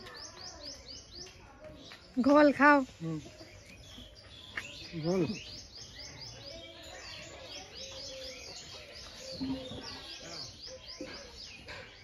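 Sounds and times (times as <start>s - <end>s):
birds chirping: 0.0s - 12.0s
faint voices: 0.0s - 12.0s.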